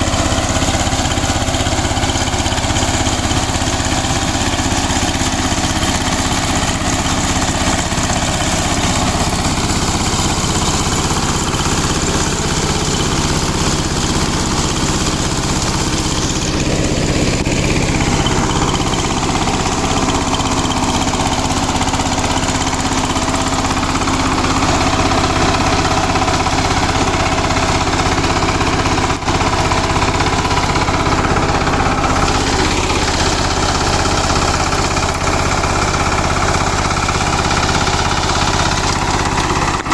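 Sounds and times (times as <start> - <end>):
diesel tiller engine running: 0.0 - 39.9.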